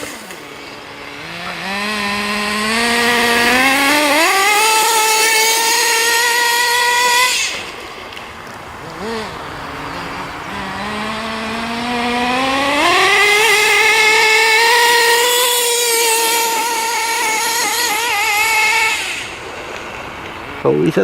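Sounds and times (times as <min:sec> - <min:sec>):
small two-stroke engine buzzing: 0:00.0 - 0:21.0.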